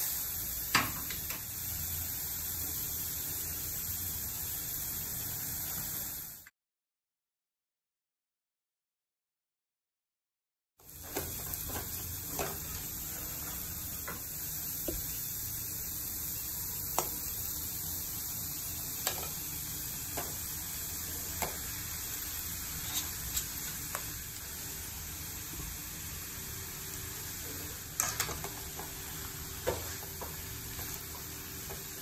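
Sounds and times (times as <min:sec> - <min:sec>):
vegetables sizzling in oil: 0:00.0 - 0:06.5, 0:10.8 - 0:32.0.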